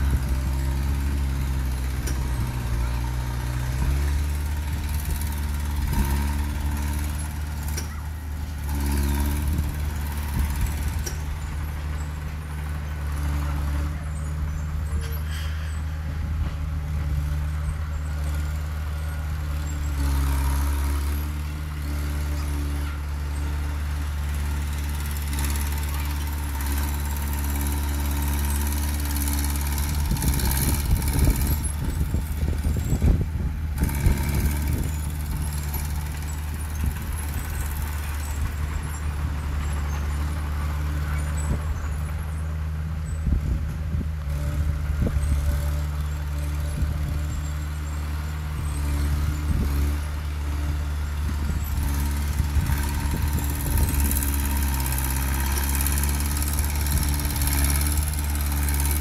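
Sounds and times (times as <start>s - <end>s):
bulldozer diesel engine under load: 0.0s - 59.0s
loud rough rattling: 0.0s - 59.0s.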